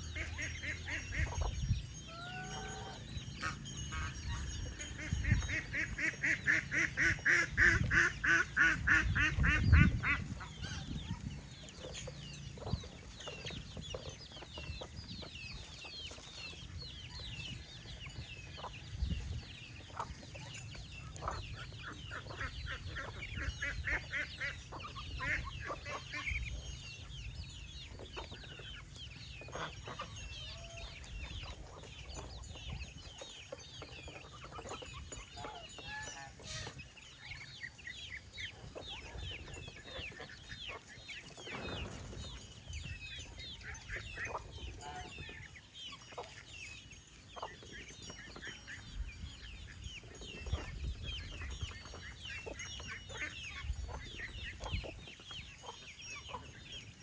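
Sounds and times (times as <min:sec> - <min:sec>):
poultry calling: 0:00.0 - 0:27.3, 0:27.9 - 0:46.8
high peeping and clucking: 0:00.0 - 0:57.0.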